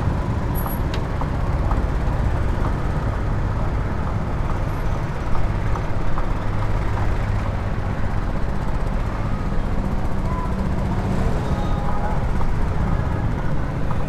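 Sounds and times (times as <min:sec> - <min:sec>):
road and traffic noise: 0:00.0 - 0:14.0.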